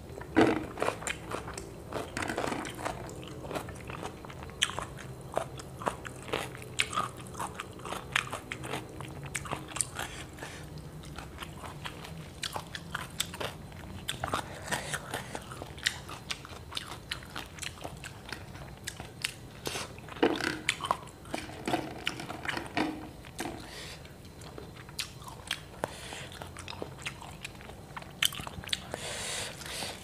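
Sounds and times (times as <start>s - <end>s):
person chewing crunchy food: 0.1s - 30.0s.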